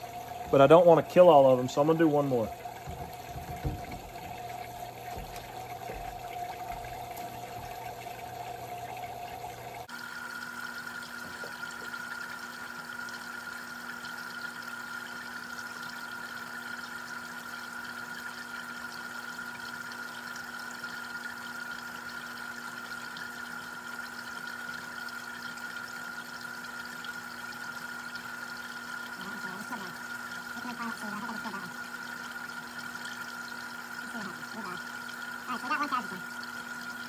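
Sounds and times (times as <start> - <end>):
steady pump hum: 0.0 - 37.0
water trickling and splashing: 0.0 - 37.0.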